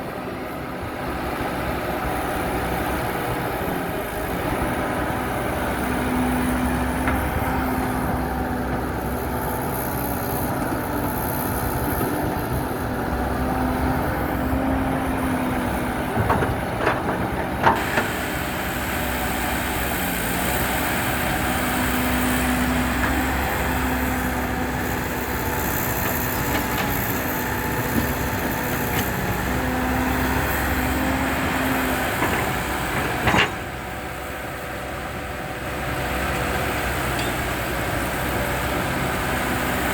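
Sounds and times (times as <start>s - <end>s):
diesel engine running: 0.2s - 39.9s.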